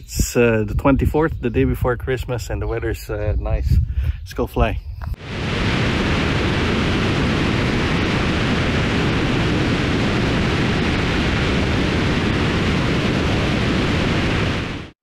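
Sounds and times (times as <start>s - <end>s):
rushing wind roar: 0.0s - 15.0s.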